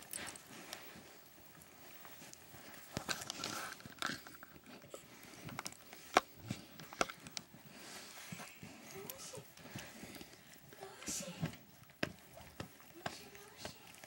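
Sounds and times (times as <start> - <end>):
dogs mouthing and chewing: 0.0 - 14.0.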